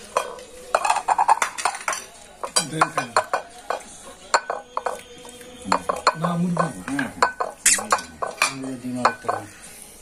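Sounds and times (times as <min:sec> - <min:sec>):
plates and spoons clinking: 0:00.0 - 0:09.8
voices: 0:00.0 - 0:10.0.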